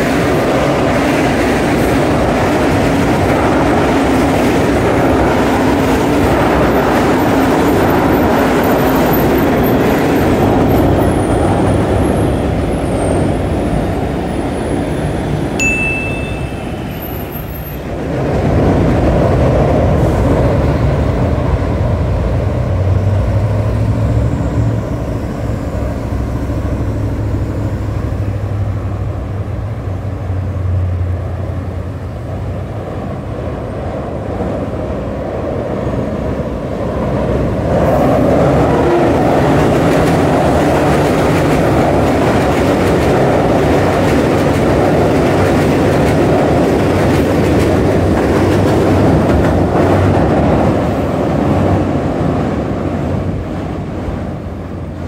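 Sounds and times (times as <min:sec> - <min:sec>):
street traffic engine drone: 0:00.0 - 0:55.0
train wheels rolling on rail: 0:00.0 - 0:55.0.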